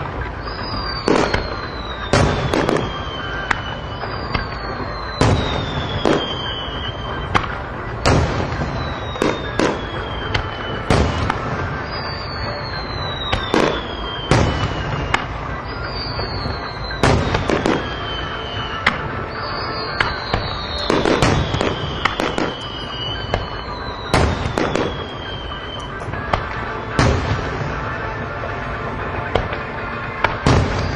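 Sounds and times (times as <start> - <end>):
falling firework whistle: 0.0 - 28.0, 30.2 - 30.9
fireworks bursting with bangs: 0.0 - 30.9.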